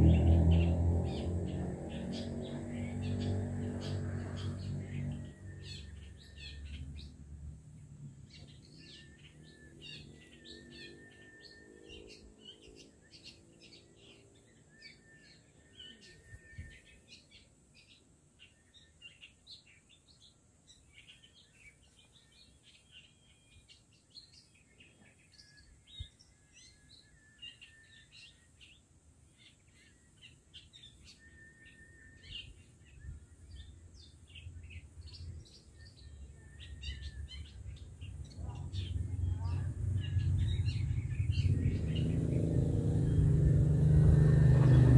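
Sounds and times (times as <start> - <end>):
bird singing chatter: 0.0 - 44.9.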